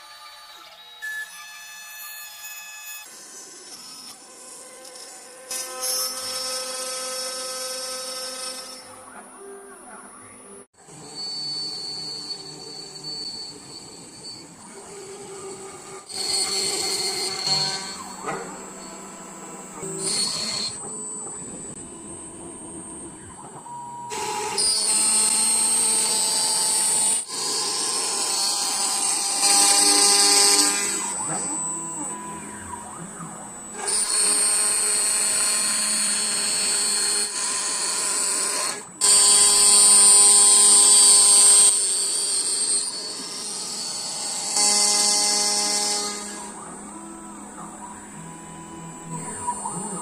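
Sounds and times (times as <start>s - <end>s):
small power tool whining: 0.0s - 9.6s, 10.2s - 50.0s.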